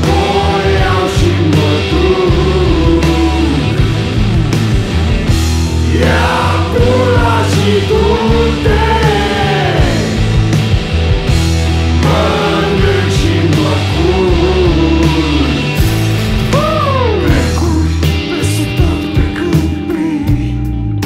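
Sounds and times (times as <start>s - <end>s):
rock song with singing: 0.0s - 21.0s.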